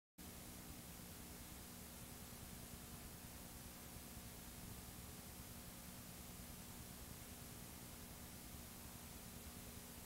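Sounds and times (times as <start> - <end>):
low even hum: 0.2 - 10.0
tape hiss: 0.2 - 10.0.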